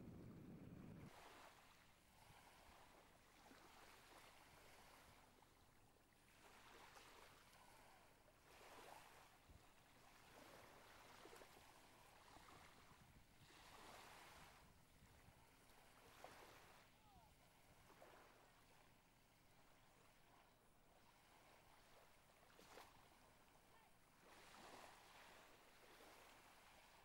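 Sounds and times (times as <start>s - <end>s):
small waves lapping on sand: 1.0s - 27.0s.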